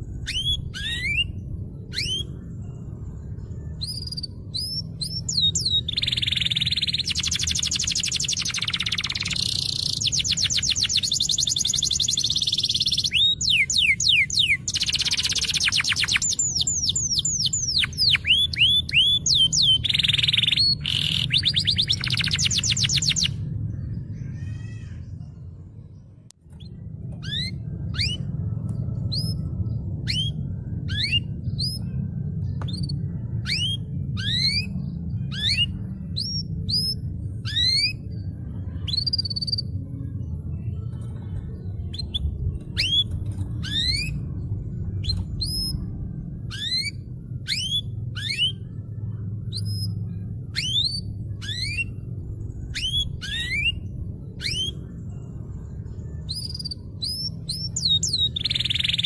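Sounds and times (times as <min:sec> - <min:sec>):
canary singing: 0:00.0 - 0:25.0, 0:29.0 - 0:39.9, 0:41.8 - 0:59.0
steady low rumble: 0:00.0 - 0:59.0.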